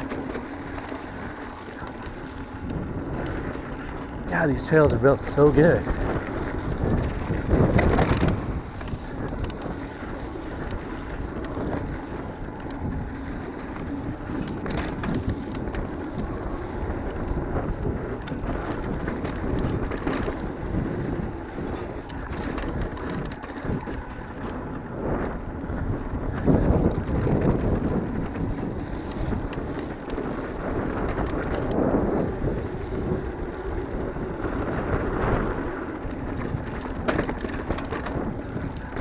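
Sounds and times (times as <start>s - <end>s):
bike clicking and rattling: 0.0s - 39.0s
tyres on loose dirt: 0.0s - 39.0s
wind rushing over microphone: 0.0s - 39.0s.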